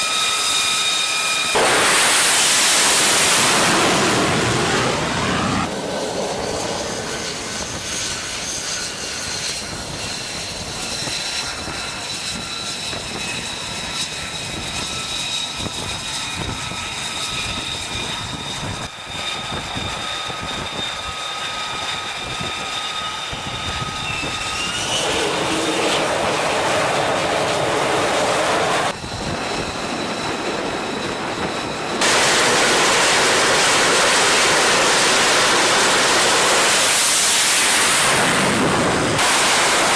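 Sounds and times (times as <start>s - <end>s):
loud jet rush: 0.0s - 20.7s, 21.9s - 39.9s
jet engine roar with turbine whine: 0.0s - 39.9s.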